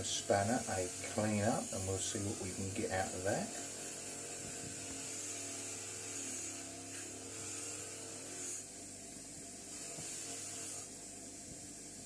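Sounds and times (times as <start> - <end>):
power tool motor whining: 0.0 - 8.7, 9.7 - 11.0
steady electrical hum: 0.0 - 12.0.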